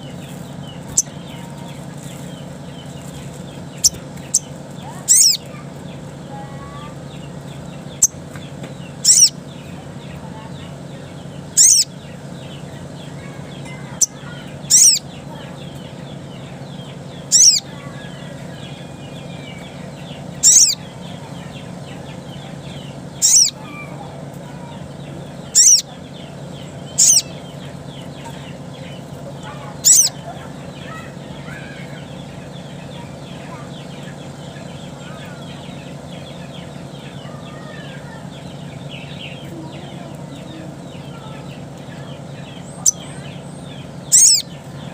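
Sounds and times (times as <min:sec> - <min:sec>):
sunbird high sharp calls: 0:00.0 - 0:01.7, 0:02.7 - 0:05.7, 0:08.8 - 0:40.0, 0:40.6 - 0:44.9
steady low hum: 0:00.0 - 0:44.9.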